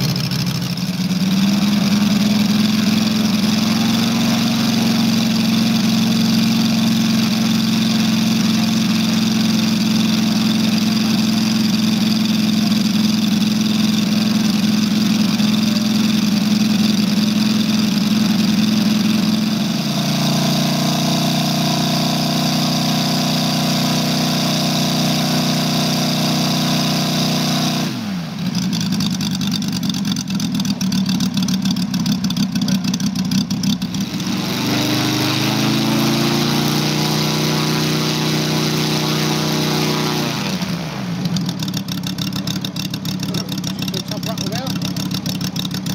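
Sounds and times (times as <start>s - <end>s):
model aircraft engine running: 0.0s - 45.9s.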